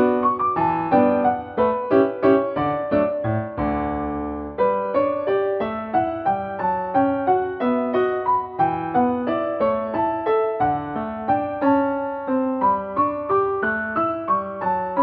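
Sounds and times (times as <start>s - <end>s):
solo piano waltz: 0.0s - 15.0s.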